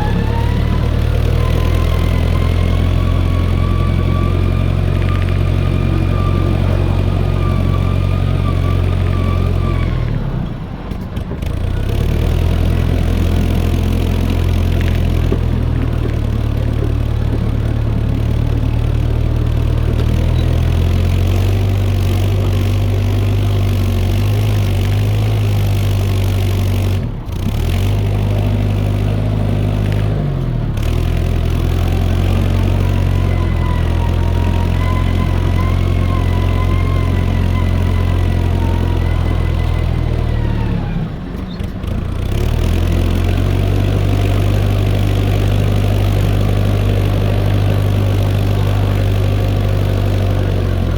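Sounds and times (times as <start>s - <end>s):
diesel tractor engine running: 0.0s - 50.9s.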